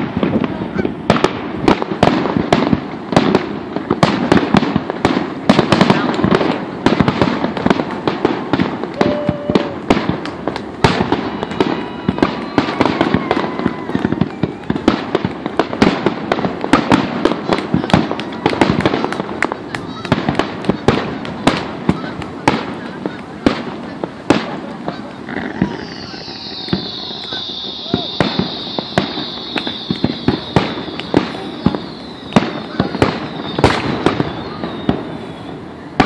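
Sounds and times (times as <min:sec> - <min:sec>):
firework bangs: 0:00.0 - 0:36.0
fireworks crackling: 0:00.0 - 0:36.0
fireworks rumbling: 0:00.0 - 0:36.0.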